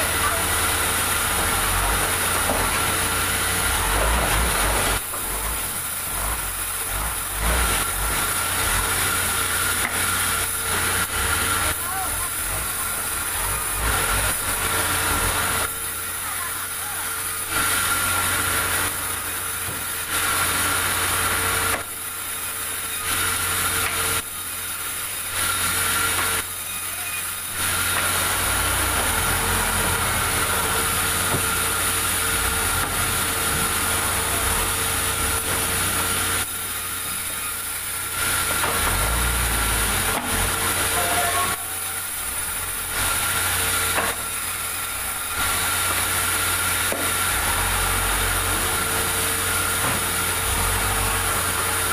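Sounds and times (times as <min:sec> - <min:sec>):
sawmill saw cutting logs: 0:00.0 - 0:51.9.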